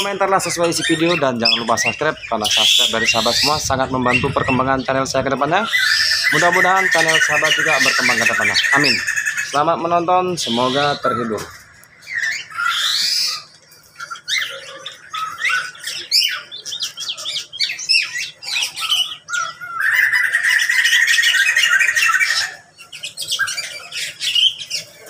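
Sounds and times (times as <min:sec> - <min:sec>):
birds chirping and squawking: 0:00.0 - 0:25.0
fast trilled bird chatter: 0:00.0 - 0:25.0.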